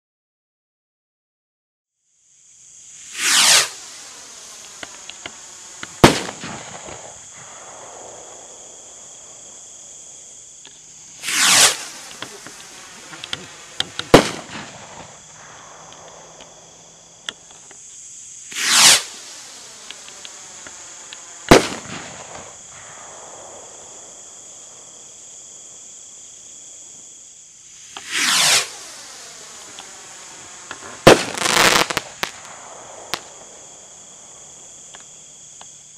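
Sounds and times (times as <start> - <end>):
firework rocket whooshing up: 2.3 - 35.9
firework bursting with bang: 2.7 - 35.7.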